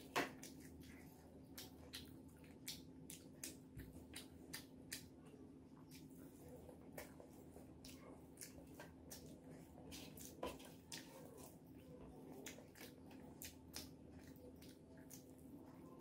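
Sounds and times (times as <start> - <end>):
mouth chewing: 0.0 - 5.2, 5.8 - 16.0
fingers squishing rice: 0.0 - 16.0.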